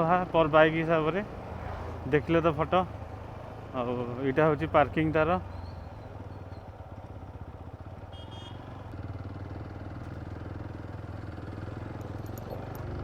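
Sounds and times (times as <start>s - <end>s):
motorcycle engine at low speed: 1.9s - 13.0s.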